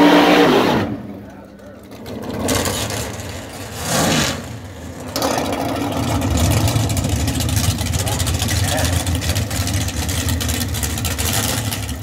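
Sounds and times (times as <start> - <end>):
drag car engines revving: 0.0 - 12.0.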